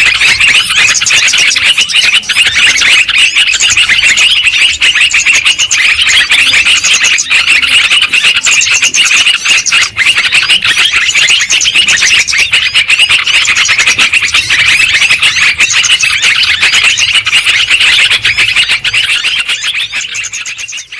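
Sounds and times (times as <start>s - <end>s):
birds chattering noisily: 0.0s - 20.9s.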